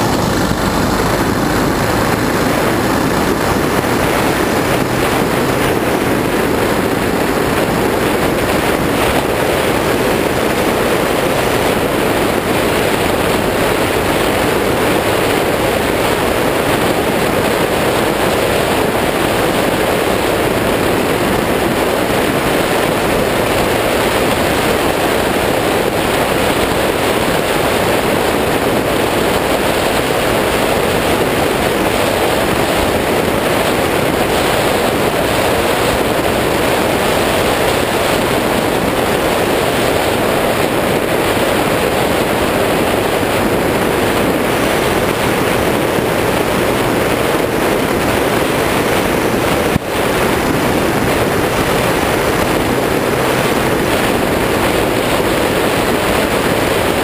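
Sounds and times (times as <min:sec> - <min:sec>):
motorcycle engine: 0:00.0 - 0:57.0
wind rush on microphone: 0:00.0 - 0:57.0.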